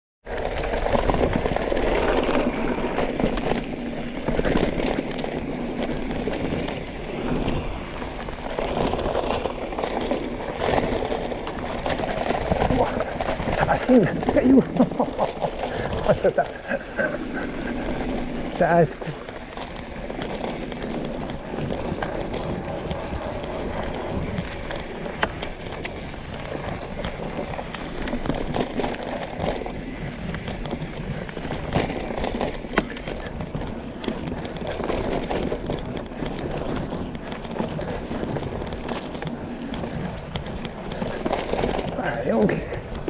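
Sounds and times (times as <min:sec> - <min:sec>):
mountain bike rattling over rocks: 0:00.3 - 0:43.0
tyres crunching on stones: 0:00.3 - 0:43.0.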